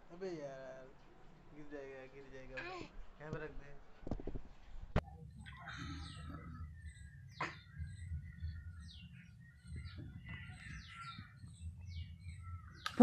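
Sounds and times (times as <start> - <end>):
small birds chirping: 0.2 - 13.0.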